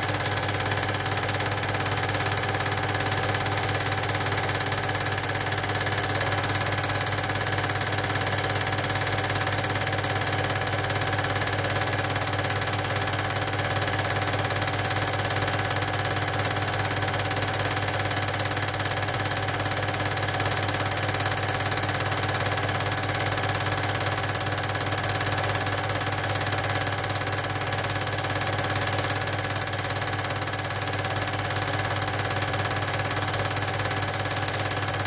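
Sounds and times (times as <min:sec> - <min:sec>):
film projector whirring: 0:00.0 - 0:35.0.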